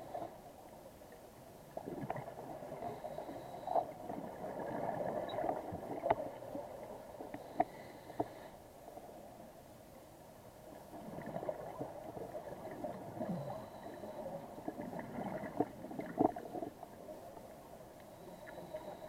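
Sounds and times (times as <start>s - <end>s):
underwater bubbles gurgling: 0.0s - 9.2s, 10.6s - 19.0s.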